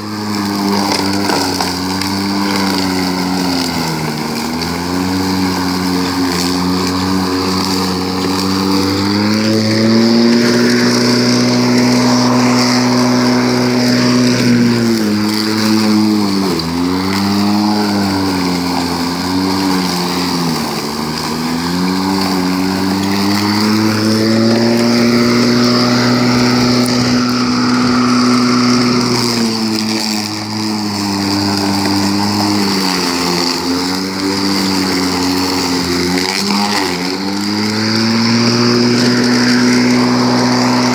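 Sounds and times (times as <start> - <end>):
electric lawnmower motor whine: 0.0 - 40.9.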